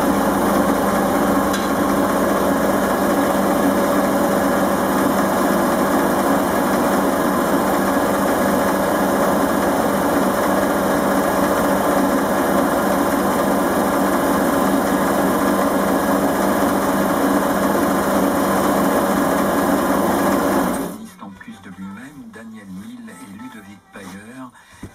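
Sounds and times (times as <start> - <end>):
steel wool on spinning wood: 0.0 - 21.0
wood lathe motor hum: 0.0 - 21.0.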